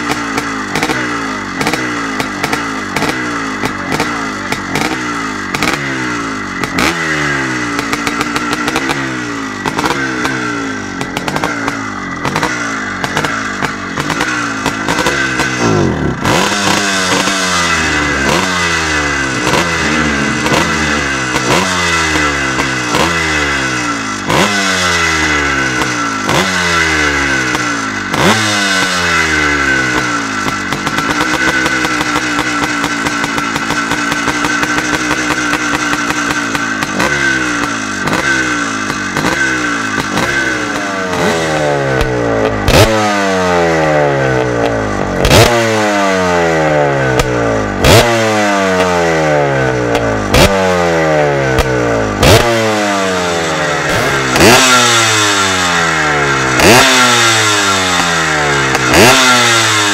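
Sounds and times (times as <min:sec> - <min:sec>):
engine backfire crack: 0:00.0 - 0:46.0, 0:46.7 - 0:59.9
two-stroke engine revving: 0:00.0 - 0:59.9.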